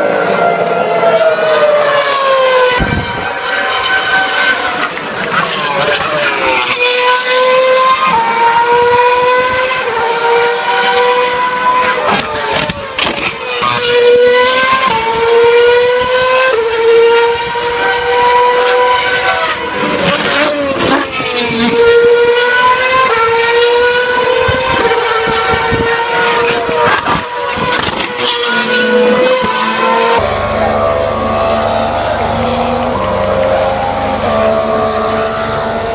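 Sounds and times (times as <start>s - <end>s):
racing car engine at high revs: 0.0s - 35.9s.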